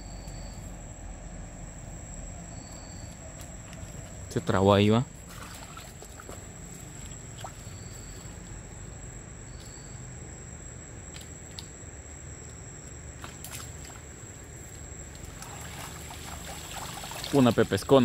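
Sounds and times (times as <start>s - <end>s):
steady low rumble: 0.0s - 16.6s.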